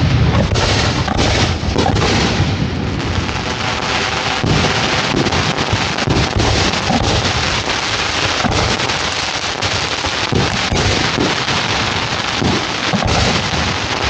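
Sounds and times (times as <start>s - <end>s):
fireworks crackling: 0.0s - 14.0s
wind rumbling on microphone: 0.0s - 14.0s.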